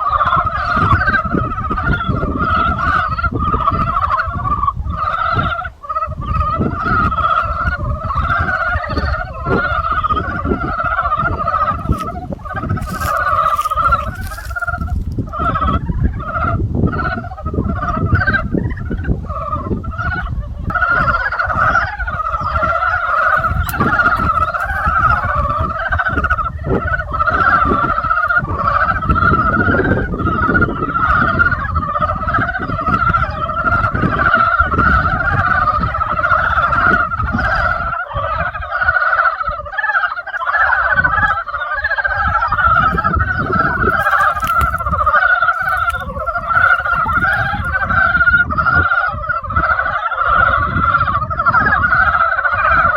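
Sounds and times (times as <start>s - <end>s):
frogs trilling chorus: 0.0s - 52.9s.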